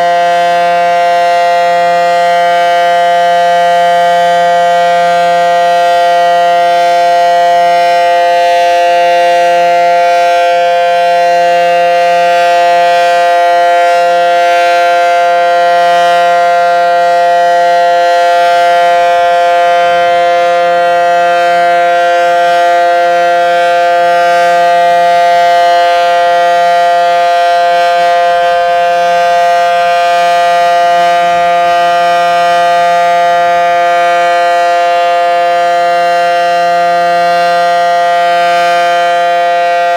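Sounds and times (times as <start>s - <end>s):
dual-tone warning siren: 0.0s - 39.9s.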